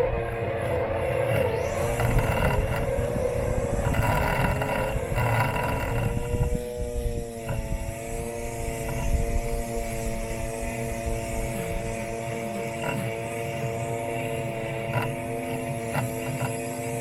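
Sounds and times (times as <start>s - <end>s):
electric motors whining: 0.0s - 17.0s
hiss of mower cutting: 0.0s - 17.0s.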